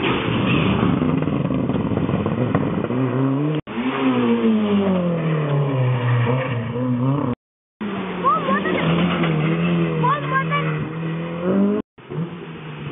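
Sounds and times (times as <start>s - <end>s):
rally car engine accelerating: 0.0s - 12.9s.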